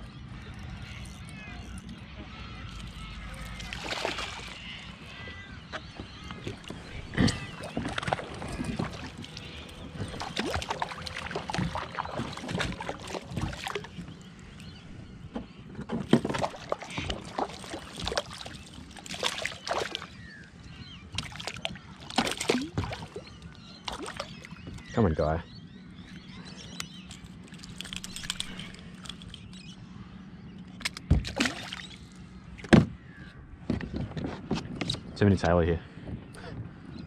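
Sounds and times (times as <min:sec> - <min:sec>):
water lapping against kayak hull: 0:00.7 - 0:29.2, 0:30.9 - 0:34.9.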